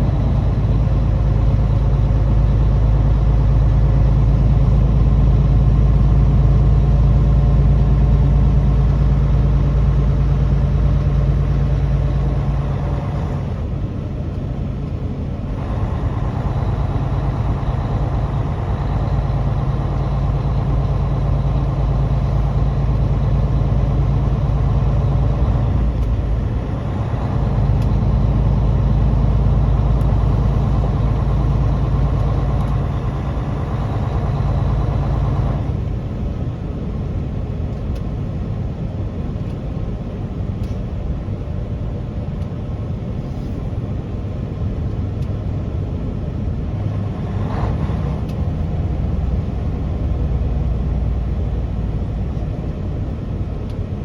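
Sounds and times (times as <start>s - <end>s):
road noise: 0.0s - 54.0s
truck engine running: 0.0s - 54.0s.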